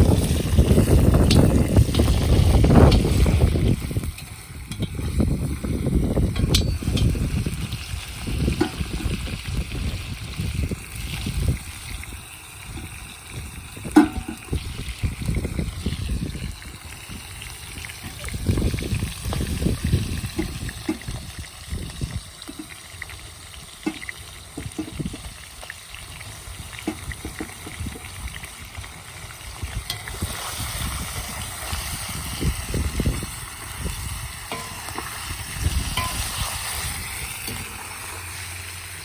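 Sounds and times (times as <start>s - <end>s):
wind buffeting microphone: 0.0s - 22.4s, 24.6s - 25.4s, 26.1s - 37.7s
food sizzling in oil: 0.0s - 39.0s.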